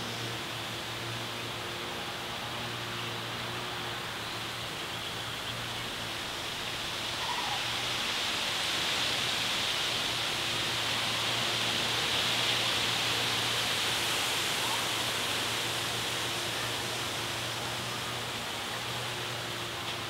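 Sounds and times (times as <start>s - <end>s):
wind rustling through leafy trees: 0.0s - 20.0s.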